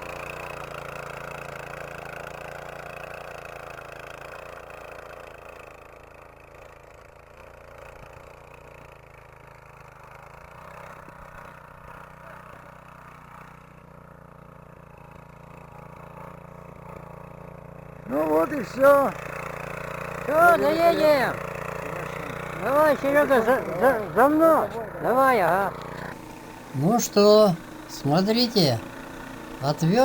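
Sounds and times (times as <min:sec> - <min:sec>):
small engine running steadily: 0:00.0 - 0:30.0.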